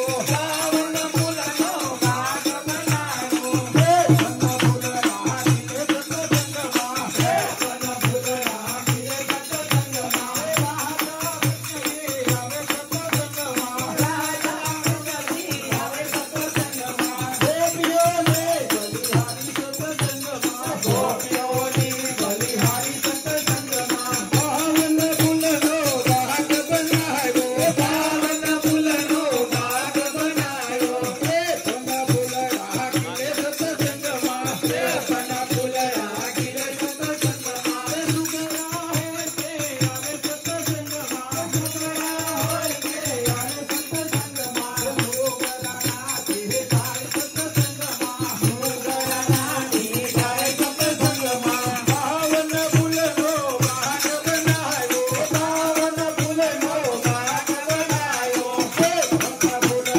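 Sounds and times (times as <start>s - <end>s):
group singing devotional song: 0.0s - 59.9s
jingling clappers and hand cymbals: 0.0s - 59.9s.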